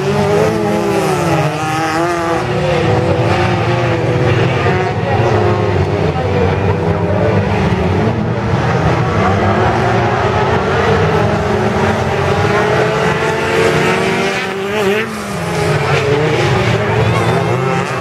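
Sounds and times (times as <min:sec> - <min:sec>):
racing car engines revving: 0:00.0 - 0:18.0.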